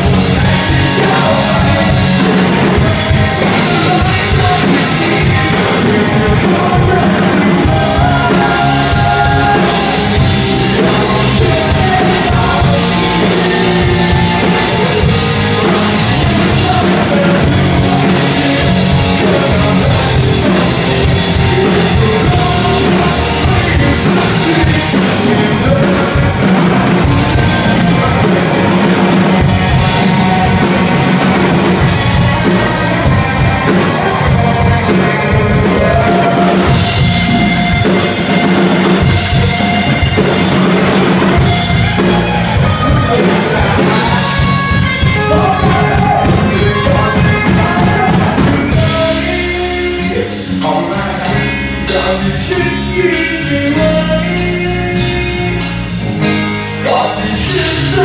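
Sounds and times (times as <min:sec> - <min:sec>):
person singing: 0:00.0 - 0:56.0, 0:56.8 - 0:58.0
bass guitar: 0:00.0 - 0:58.0
distorted electric guitar: 0:00.0 - 0:58.0
drum kit: 0:00.0 - 0:58.0.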